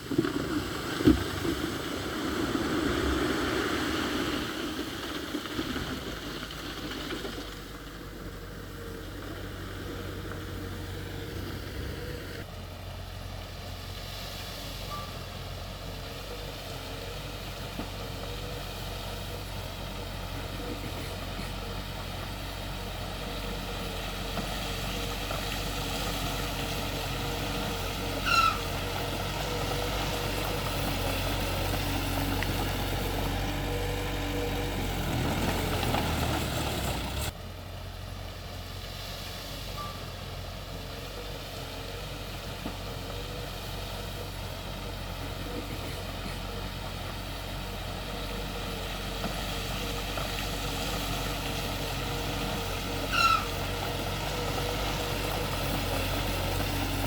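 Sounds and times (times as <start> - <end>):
diesel machinery engine running: 0.0 - 57.0.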